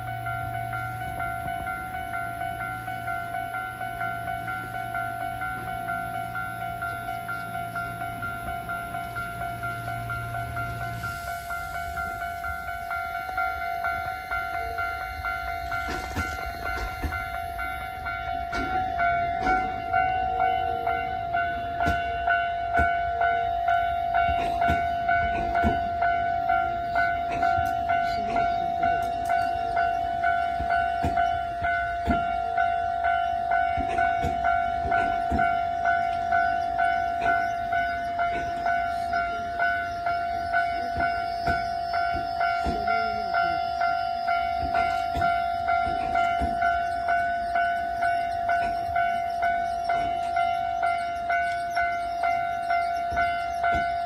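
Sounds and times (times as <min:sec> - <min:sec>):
level crossing alarm ringing: 0:00.0 - 0:54.0
train passing with clicks: 0:00.0 - 0:54.0.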